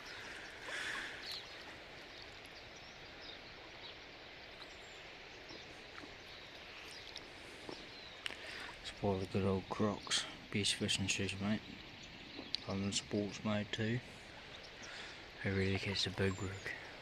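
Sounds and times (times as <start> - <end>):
creek water flowing: 0.0 - 17.0
faint bird chirps: 0.0 - 17.0.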